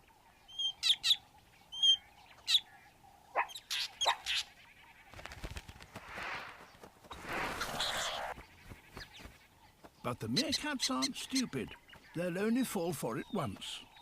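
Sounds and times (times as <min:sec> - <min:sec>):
bird alarm calls: 0:00.5 - 0:05.3, 0:06.6 - 0:14.0.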